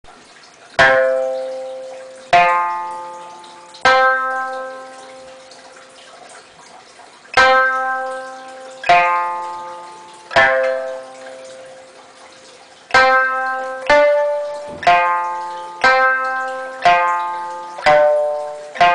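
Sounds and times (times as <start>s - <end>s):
plucked lute notes: 0.8s - 6.2s, 7.3s - 18.9s.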